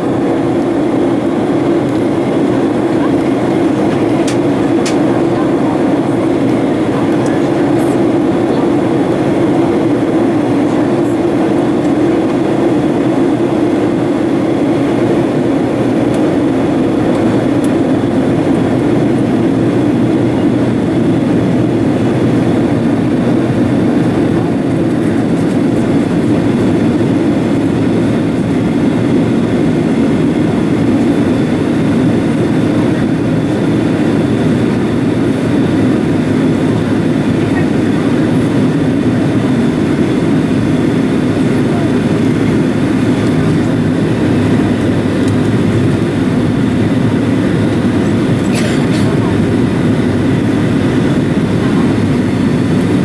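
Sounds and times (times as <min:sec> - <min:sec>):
airplane cabin engine roar: 0:00.0 - 0:53.0.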